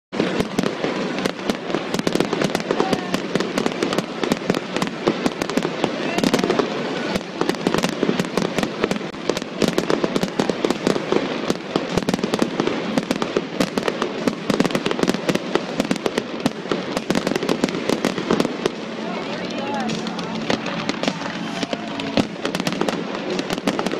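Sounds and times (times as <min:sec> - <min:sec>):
fireworks crackling and popping: 0:00.1 - 0:23.9
fireworks hissing: 0:00.1 - 0:23.9.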